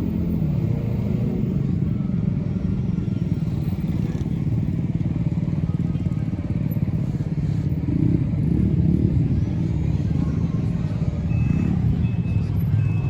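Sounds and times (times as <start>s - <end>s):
scooter engines running: 0.0s - 13.0s.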